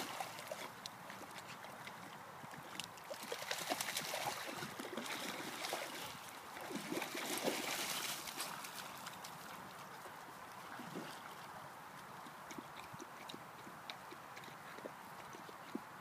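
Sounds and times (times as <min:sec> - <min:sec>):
dogs splashing through water: 0:00.0 - 0:16.0.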